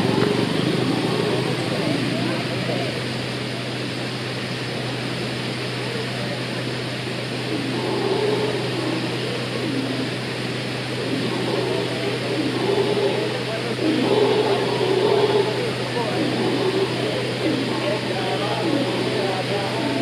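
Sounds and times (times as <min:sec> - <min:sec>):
howler monkeys howling: 0:00.0 - 0:03.7, 0:05.8 - 0:20.0.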